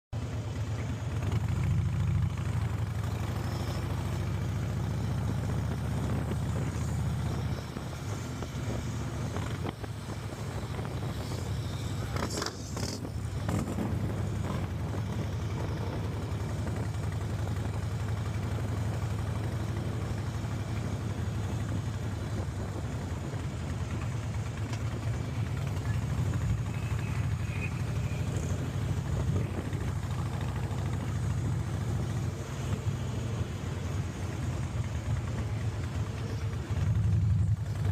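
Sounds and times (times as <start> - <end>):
motorcycle engine rumbling: 0.2 - 37.9.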